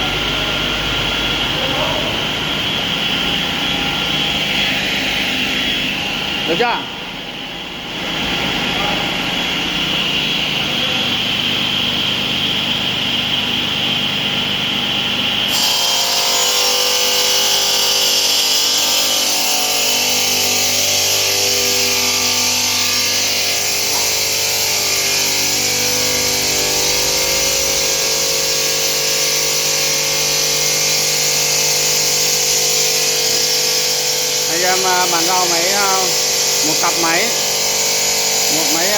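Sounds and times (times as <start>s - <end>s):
stone-working machine motor hum: 0.0s - 38.9s.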